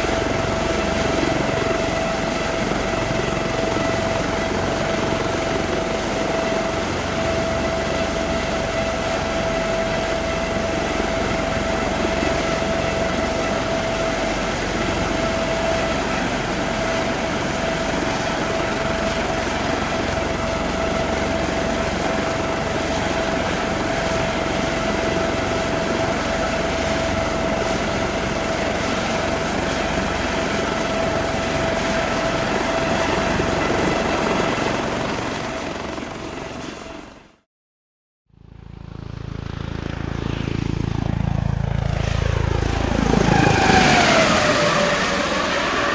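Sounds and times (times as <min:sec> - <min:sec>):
helicopter running: 0:00.0 - 0:37.4, 0:38.4 - 0:45.9.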